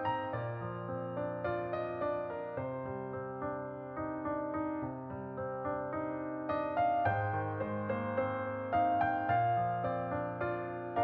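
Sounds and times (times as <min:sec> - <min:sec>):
slow piano tune: 0:00.0 - 0:11.0.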